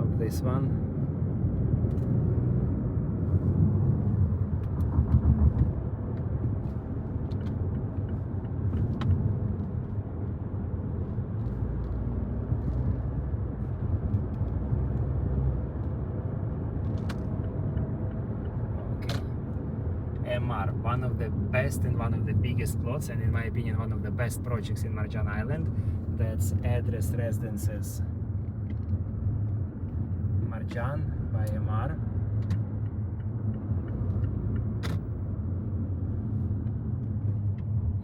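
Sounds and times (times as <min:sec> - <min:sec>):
car rumbling on the move: 0:00.0 - 0:38.0.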